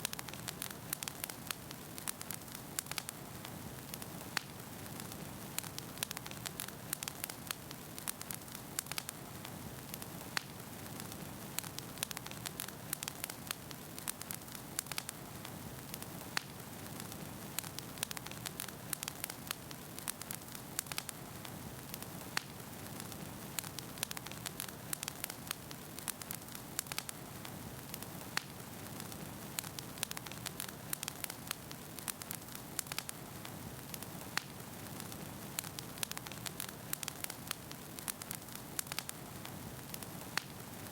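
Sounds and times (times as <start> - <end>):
burning logs popping and crackling: 0.0 - 40.9
wood fire hissing: 0.0 - 40.9.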